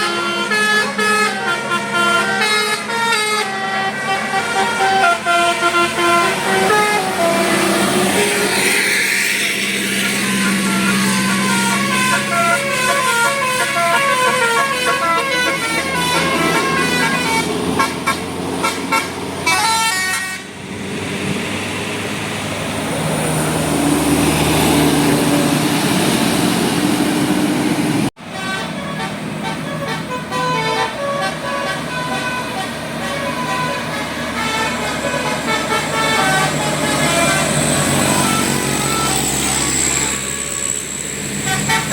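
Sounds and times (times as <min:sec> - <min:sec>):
bus musical horn melody: 0:00.0 - 0:20.6, 0:28.1 - 0:41.9
bus engine: 0:00.0 - 0:41.9
road noise: 0:00.0 - 0:41.9.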